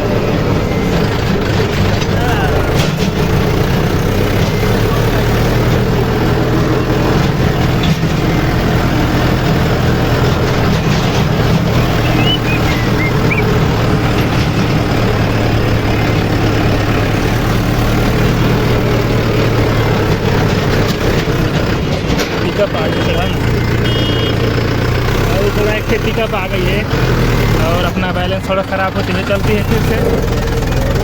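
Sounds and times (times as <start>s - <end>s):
diesel tractor engine: 0.0s - 31.0s.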